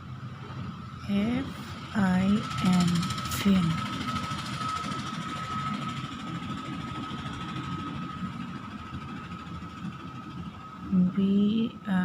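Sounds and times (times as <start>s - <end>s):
low background rumble: 0.0s - 12.0s
thin high whine: 0.0s - 12.0s.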